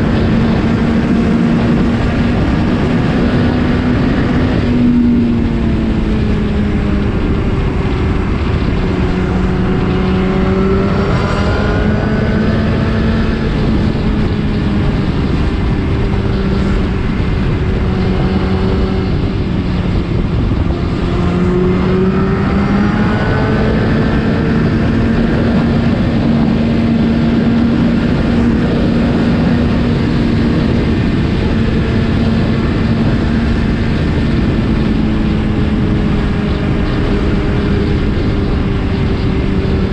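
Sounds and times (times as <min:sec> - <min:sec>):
motorcycle engine cruising: 0:00.0 - 0:39.9
rush of noise: 0:00.0 - 0:39.9.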